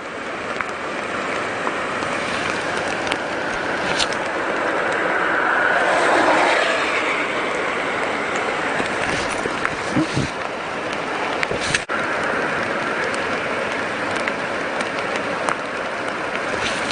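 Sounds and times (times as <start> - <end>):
river rushing: 0.0 - 16.9
wind: 0.0 - 16.9.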